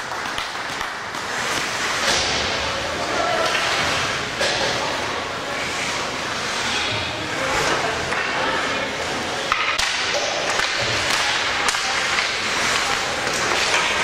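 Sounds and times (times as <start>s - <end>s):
indistinct voices in a hall: 0.0s - 14.0s.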